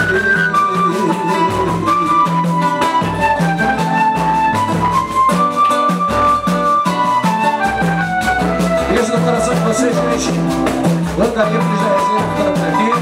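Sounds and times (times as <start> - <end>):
samba band playing: 0.0 - 13.0.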